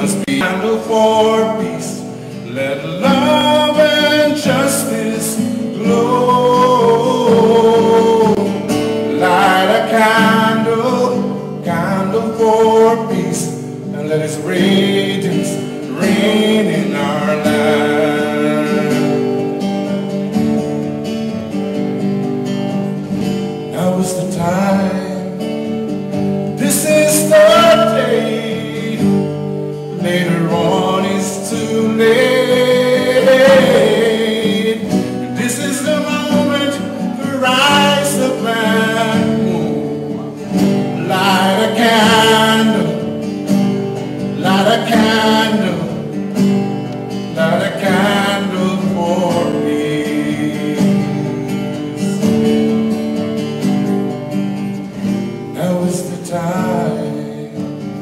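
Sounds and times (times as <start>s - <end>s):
man singing a slow ballad: 0.0s - 19.6s, 23.6s - 25.8s, 26.5s - 43.4s, 44.2s - 46.2s, 47.2s - 52.6s, 55.5s - 58.0s
acoustic guitar: 0.0s - 58.0s.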